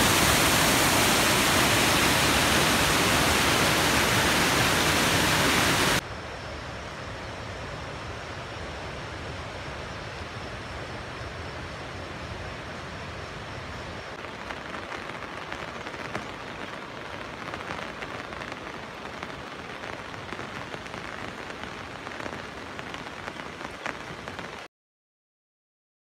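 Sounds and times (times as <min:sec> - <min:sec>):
steady rain: 0:00.0 - 0:06.0, 0:07.4 - 0:24.7.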